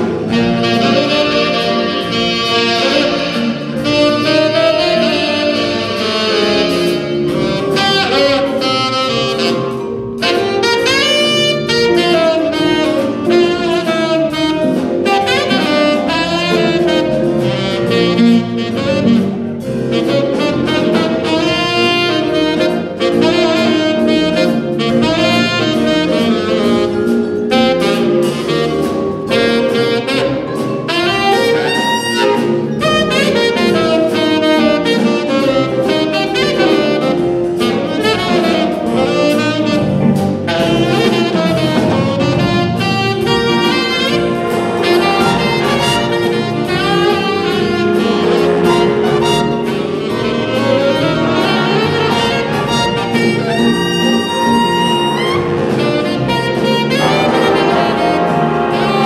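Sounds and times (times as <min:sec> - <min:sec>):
jazz band playing blues: 0:00.0 - 0:59.0
saxophone solo: 0:00.0 - 0:59.0.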